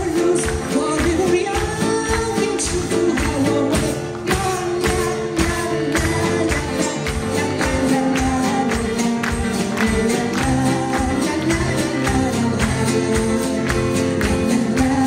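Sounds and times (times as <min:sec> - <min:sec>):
instrumental ensemble: 0:00.0 - 0:15.0
woman singing: 0:00.0 - 0:15.0.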